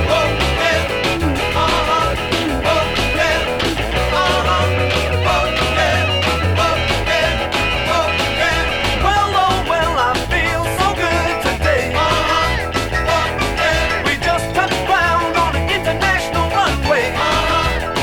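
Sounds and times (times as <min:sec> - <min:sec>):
electric guitar: 0:00.0 - 0:18.0
person singing: 0:00.0 - 0:18.0
steady bass beat: 0:00.0 - 0:18.0.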